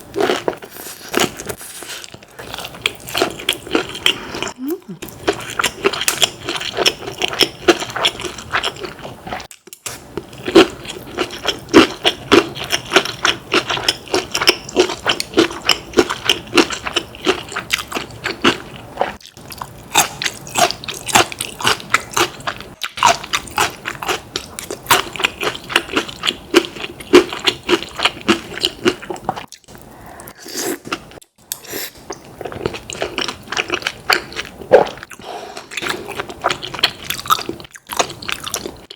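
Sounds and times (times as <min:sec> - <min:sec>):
chewing crispy fried chicken: 0:00.2 - 0:30.3, 0:32.1 - 0:38.9.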